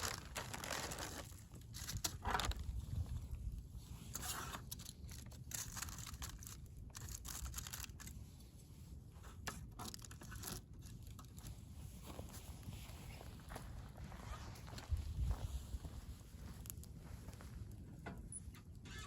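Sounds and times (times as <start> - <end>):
rustling and crinkling: 0.0 - 18.8.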